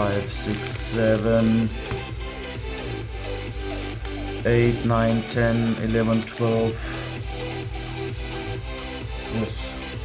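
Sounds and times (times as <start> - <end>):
electronic music with bass line: 0.0 - 10.0.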